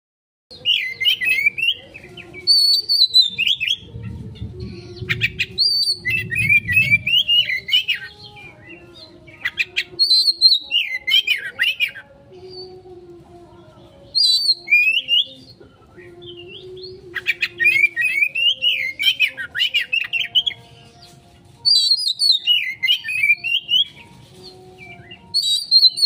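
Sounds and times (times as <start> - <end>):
songbird singing: 0.5 - 26.0.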